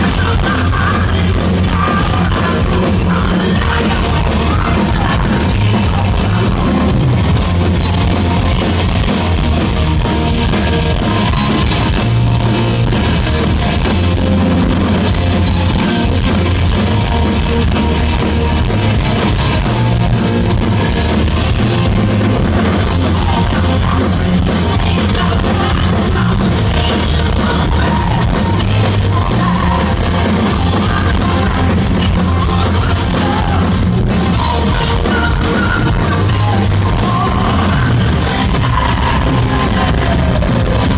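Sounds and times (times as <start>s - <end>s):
distorted electric guitar: 0.0s - 40.9s
drum kit: 0.0s - 40.9s.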